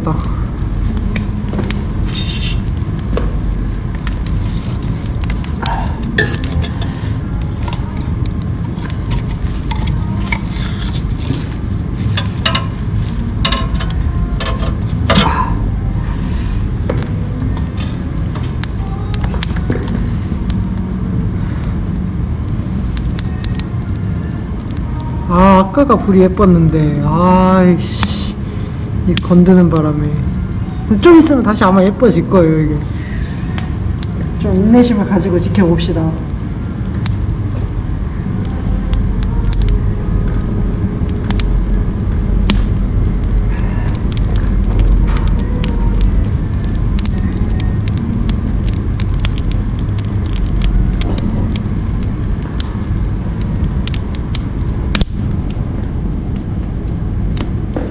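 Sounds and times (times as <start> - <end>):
firewood crackling and popping: 0.0 - 57.9
wood stove low rumble: 0.0 - 57.9.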